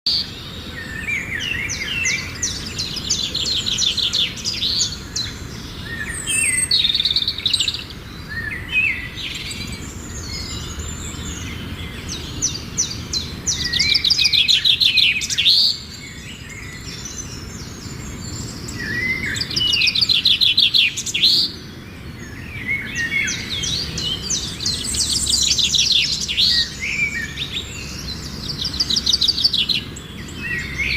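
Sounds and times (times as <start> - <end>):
small birds chirping: 0.1 - 30.9.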